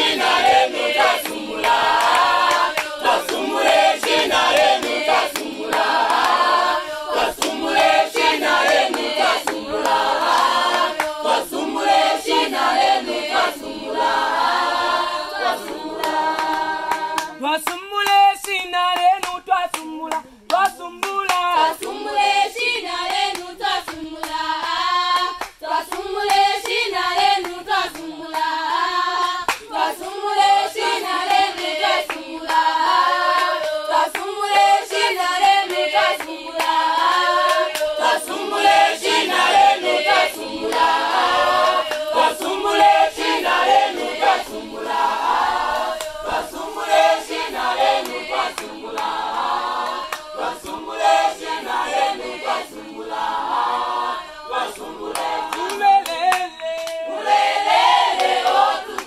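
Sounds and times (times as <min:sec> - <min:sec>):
hand claps: 0:00.0 - 0:13.6, 0:15.3 - 0:52.8, 0:54.5 - 0:59.0
group singing unaccompanied: 0:00.0 - 0:59.0.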